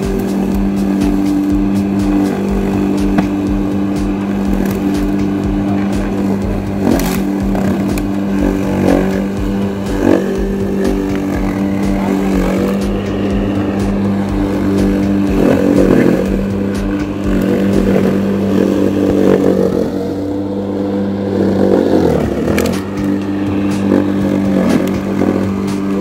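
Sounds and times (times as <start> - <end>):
electric lawn mower running: 0.0 - 26.0
mower blade scraping and clatter: 0.0 - 26.0.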